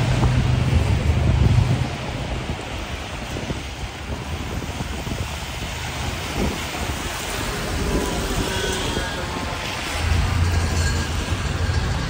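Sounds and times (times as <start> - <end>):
rain hissing: 0.0 - 12.0
traffic on wet roads: 0.0 - 12.0
wind on microphone: 0.0 - 12.0.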